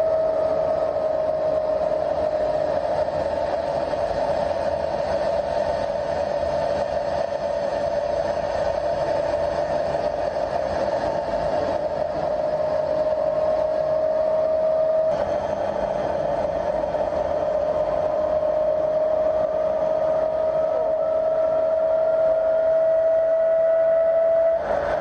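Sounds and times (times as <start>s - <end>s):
machine whine: 0.0s - 25.0s
rushing noise: 0.0s - 25.0s.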